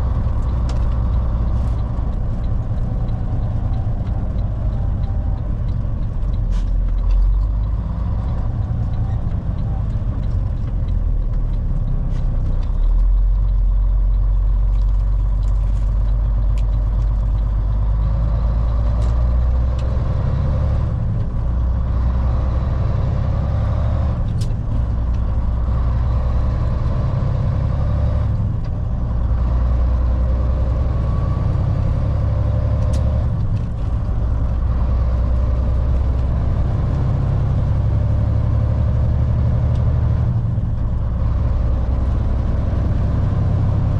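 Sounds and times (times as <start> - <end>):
road noise: 0.0 - 43.9
truck diesel engine drone: 0.0 - 43.9.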